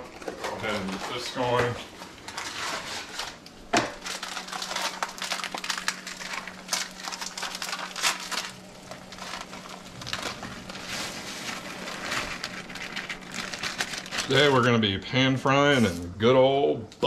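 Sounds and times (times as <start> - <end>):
paper packet crinkling: 0.0 - 14.8
steady low hum: 0.0 - 17.0.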